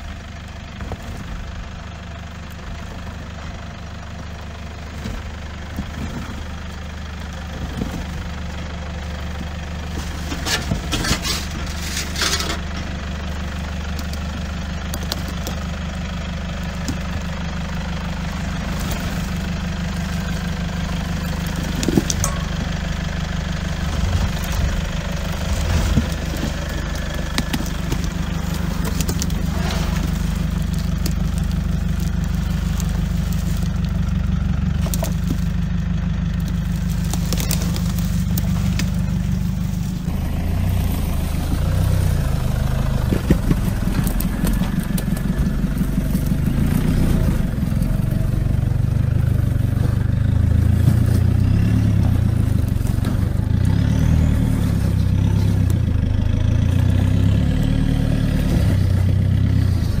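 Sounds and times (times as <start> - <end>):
truck engine under load: 0.0 - 60.0.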